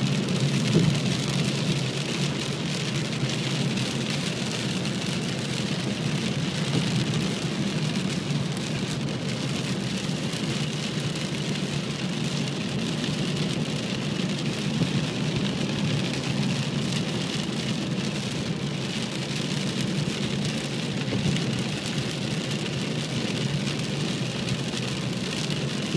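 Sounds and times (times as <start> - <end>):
rain on a moving car: 0.0 - 25.9
tyre noise on wet road: 0.0 - 25.9.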